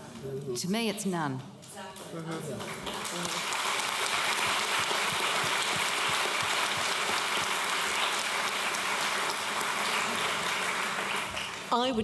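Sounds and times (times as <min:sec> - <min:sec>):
audience applauding: 0:02.2 - 0:11.8.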